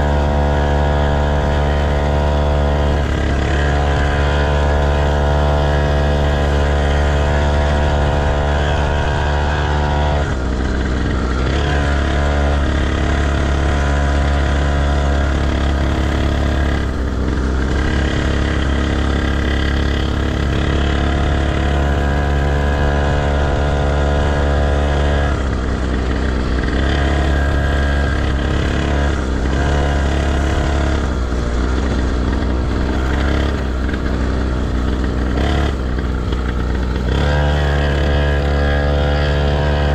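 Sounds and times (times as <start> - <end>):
motocross motorcycle engine running: 0.0 - 39.9.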